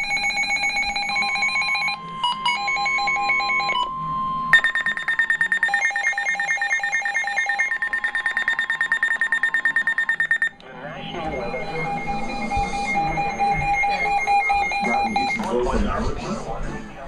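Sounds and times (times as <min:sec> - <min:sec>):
electronic alert tones from tv: 0:00.0 - 0:15.9.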